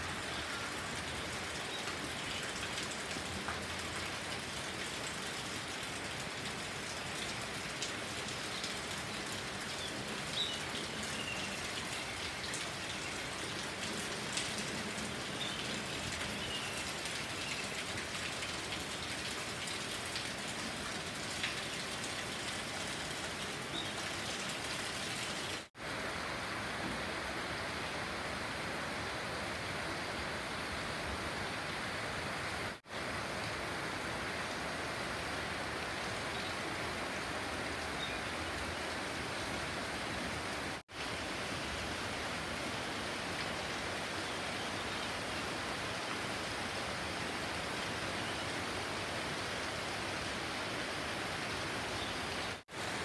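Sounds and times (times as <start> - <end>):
rain falling on foliage: 0.0 - 53.0.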